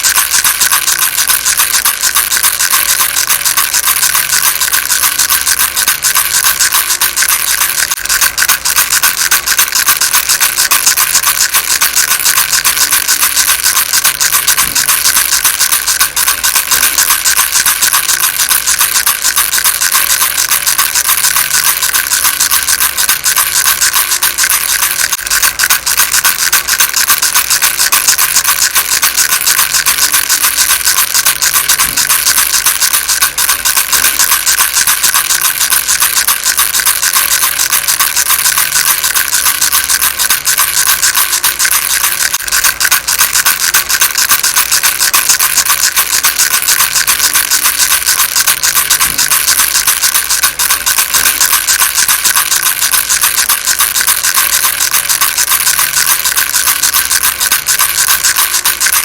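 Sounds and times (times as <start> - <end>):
baby rattle shaken: 0.0 - 59.0.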